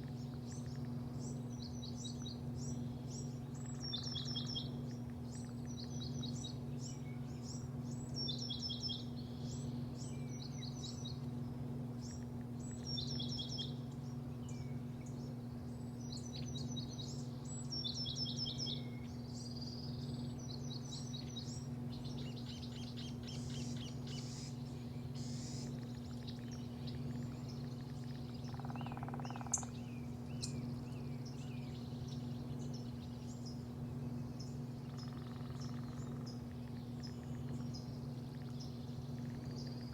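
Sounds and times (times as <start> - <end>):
songbird singing: 0.0 - 39.9
steady low hum: 0.0 - 39.9.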